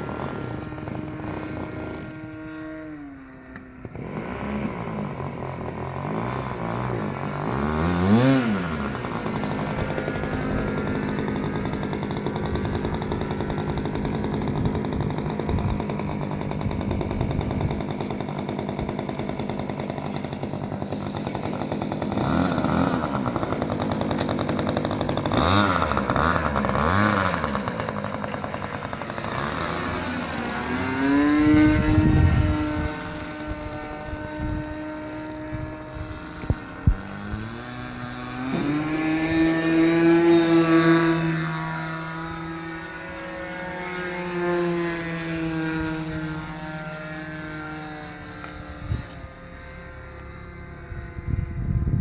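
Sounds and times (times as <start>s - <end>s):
model airplane engine buzzing: 0.0s - 52.0s.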